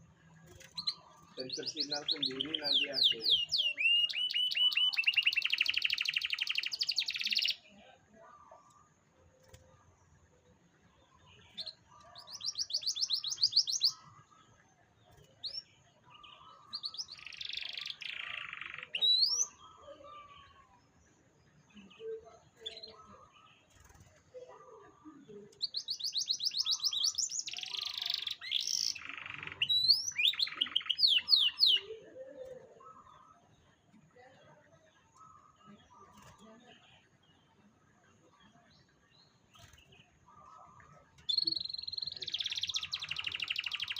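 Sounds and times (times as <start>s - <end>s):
canary singing trills: 0.0s - 7.8s, 11.0s - 43.9s.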